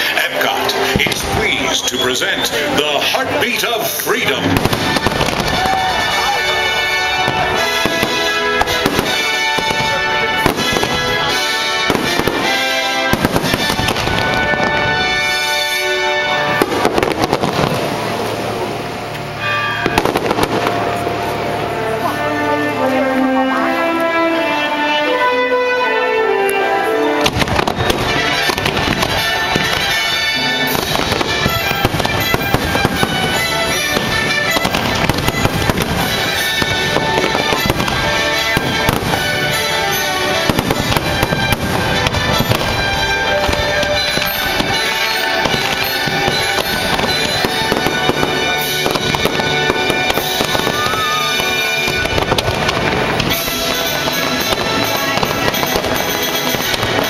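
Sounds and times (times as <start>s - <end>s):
fireworks booms and crackles: 0.0s - 23.8s, 27.0s - 57.0s.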